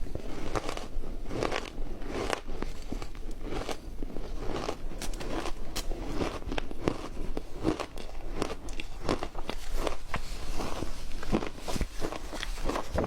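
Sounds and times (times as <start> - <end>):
ice being bitten and chewed: 0.0 - 13.0.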